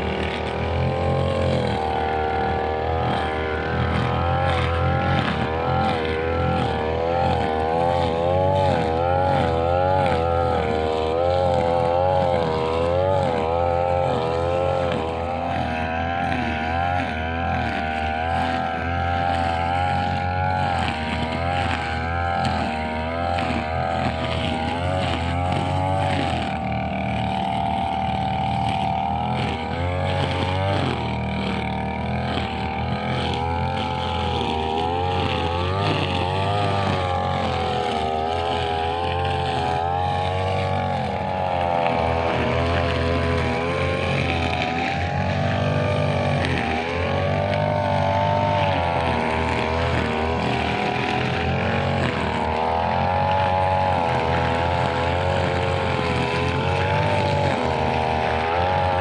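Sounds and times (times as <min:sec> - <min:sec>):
brushcutter engine running: 0:00.0 - 0:59.0.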